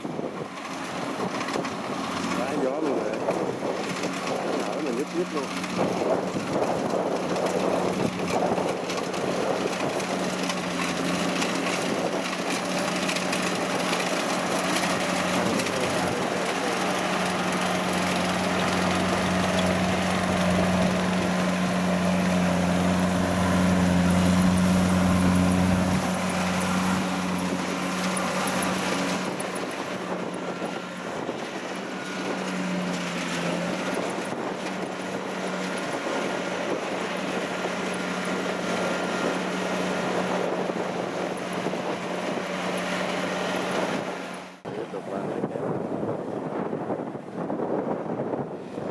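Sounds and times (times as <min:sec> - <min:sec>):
combine harvester diesel engine: 0:00.0 - 0:47.0.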